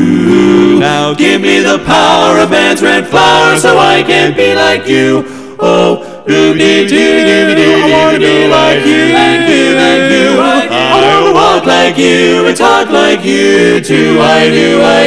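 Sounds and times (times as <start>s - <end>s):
male a cappella harmony singing: 0.0s - 15.0s.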